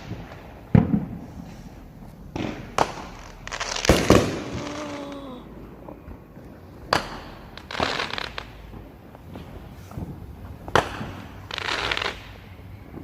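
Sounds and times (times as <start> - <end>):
small firework pops: 0.0 - 1.5, 2.3 - 5.2, 6.1 - 13.0
fireworks bangs: 0.0 - 13.0
fireworks crackling burst: 0.0 - 13.0.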